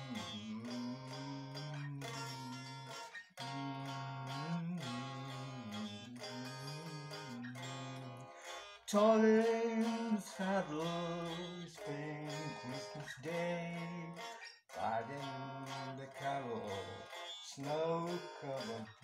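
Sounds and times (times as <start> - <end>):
electric guitar chords: 0.0 - 19.0.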